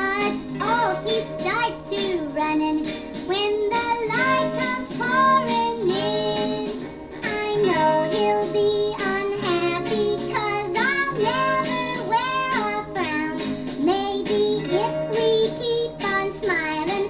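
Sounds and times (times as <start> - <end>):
instrumental backing with bass: 0.0 - 17.0
pop song singing voice: 0.0 - 17.0.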